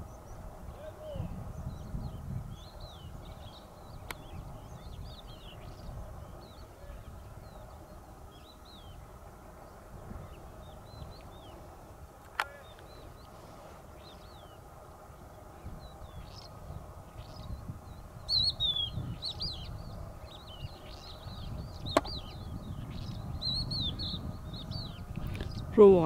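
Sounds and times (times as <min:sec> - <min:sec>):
low steady rumble: 0:00.0 - 0:26.0
small birds chirping: 0:00.0 - 0:26.0.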